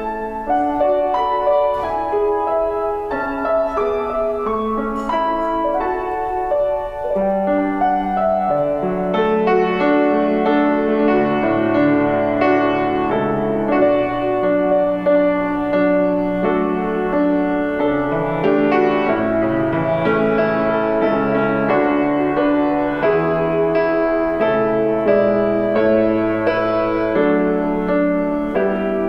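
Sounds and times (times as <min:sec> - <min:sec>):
slow piano piece: 0:00.0 - 0:29.0.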